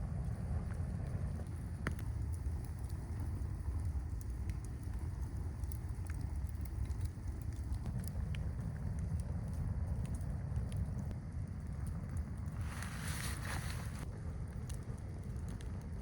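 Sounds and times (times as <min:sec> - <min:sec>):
campfire crackling: 0:00.0 - 0:16.0
low rumble of storm wind: 0:00.0 - 0:16.0.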